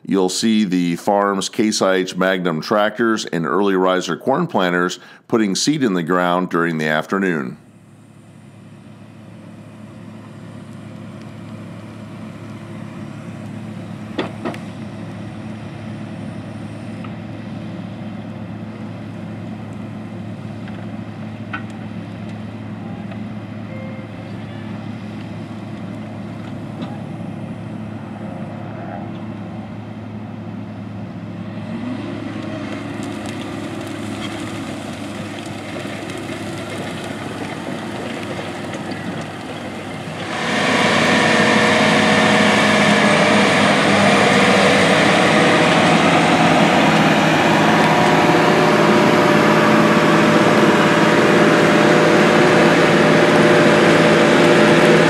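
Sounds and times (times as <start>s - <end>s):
tractor engine running under load: 7.6s - 55.0s.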